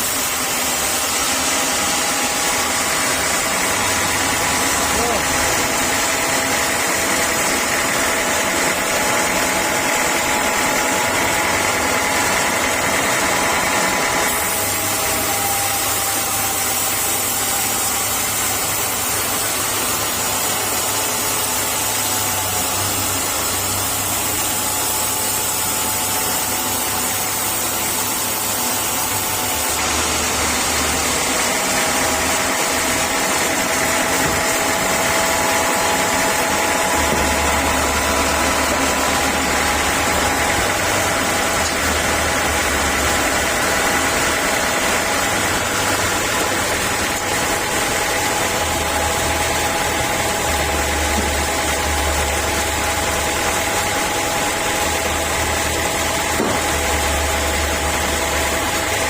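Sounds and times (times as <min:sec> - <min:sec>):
machinery whine: 0:00.0 - 0:59.0
sawmill machinery droning: 0:00.0 - 0:59.0.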